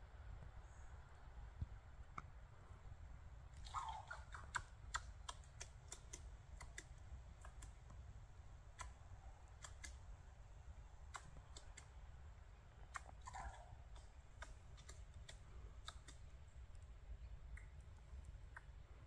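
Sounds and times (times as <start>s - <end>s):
faint sharp clicks and ticks: 3.5s - 19.0s.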